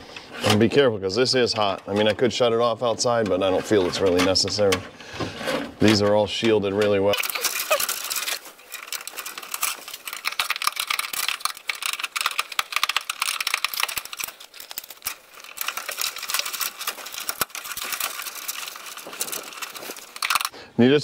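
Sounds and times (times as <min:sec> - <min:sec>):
wire clicking and rattling in metal box: 0:00.1 - 0:04.9, 0:05.5 - 0:20.5.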